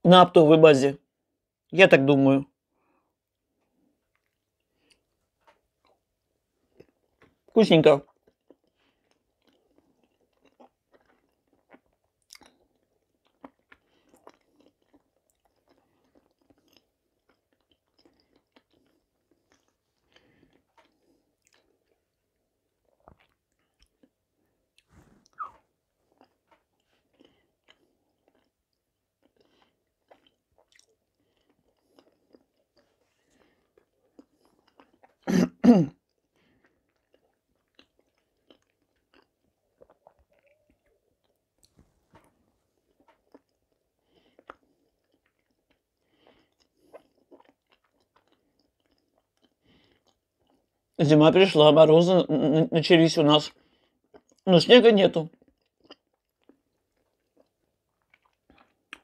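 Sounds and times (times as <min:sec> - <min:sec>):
quiet chewing: 0:02.8 - 0:35.3, 0:35.9 - 0:51.0, 0:53.5 - 0:54.4, 0:55.3 - 0:59.0.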